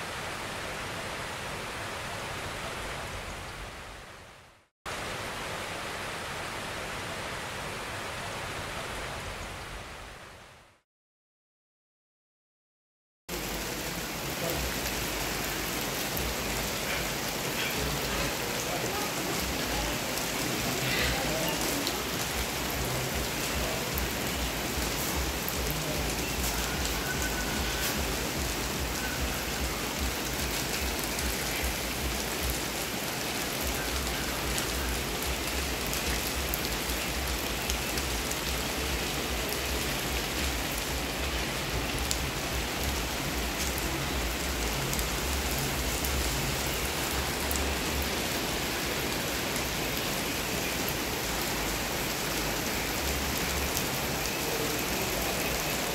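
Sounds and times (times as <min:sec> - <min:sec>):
rain falling: 0:00.0 - 0:10.6, 0:13.3 - 0:55.9.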